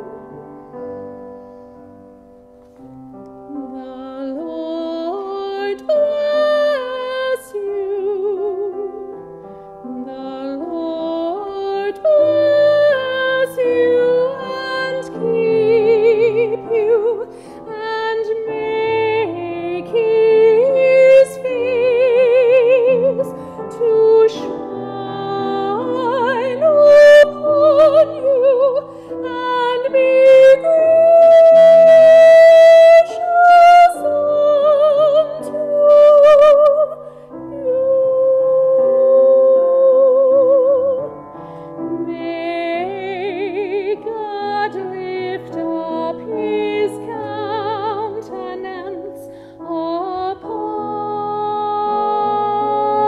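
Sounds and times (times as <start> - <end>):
woman singing operatically: 3.5 - 9.0, 9.9 - 41.1, 41.9 - 53.0.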